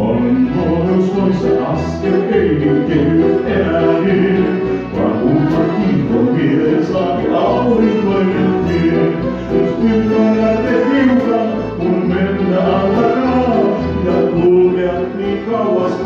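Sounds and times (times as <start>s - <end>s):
singing over a bass beat: 0.0s - 16.0s.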